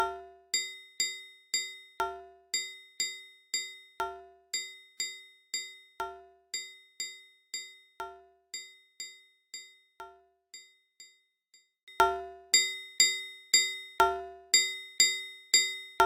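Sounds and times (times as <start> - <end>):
metronome ticking: 0.0 - 10.7, 11.9 - 16.0
accented lower metronome ring: 0.0 - 11.3, 11.9 - 16.0.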